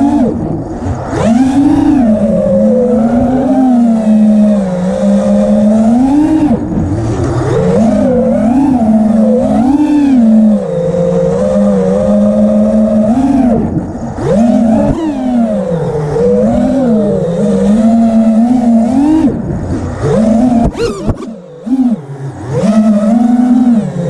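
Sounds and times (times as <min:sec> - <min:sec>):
quadcopter drone buzzing: 0:00.0 - 0:24.0.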